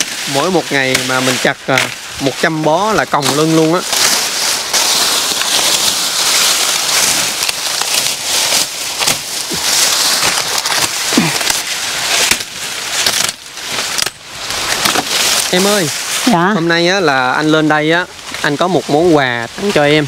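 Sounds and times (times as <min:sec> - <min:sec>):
dense crackling rustling noise: 0:00.0 - 0:20.0.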